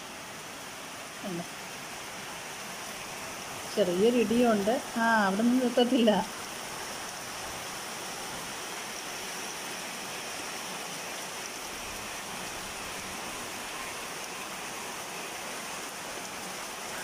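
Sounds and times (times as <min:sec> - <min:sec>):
heavy rain on trees: 0:00.0 - 0:17.0.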